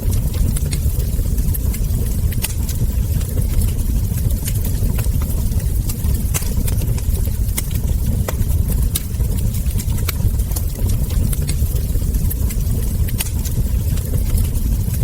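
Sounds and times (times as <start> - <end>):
low rumble of flames: 0.0 - 15.0
wood fire popping and snapping: 0.0 - 15.0.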